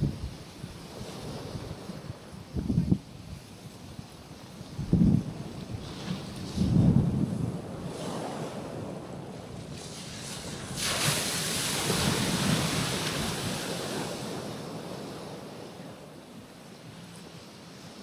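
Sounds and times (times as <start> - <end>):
wind buffeting microphone: 0.0 - 15.7
waves breaking on rocky shore: 0.0 - 18.0.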